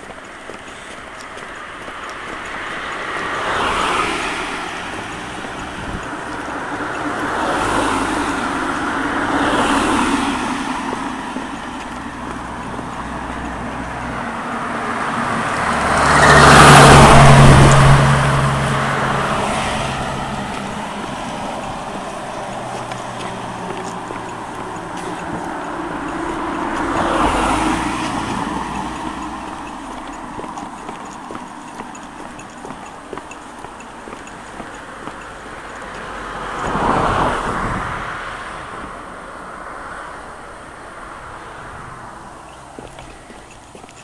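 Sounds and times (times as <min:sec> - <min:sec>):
cars passing close by: 0:00.0 - 0:44.0.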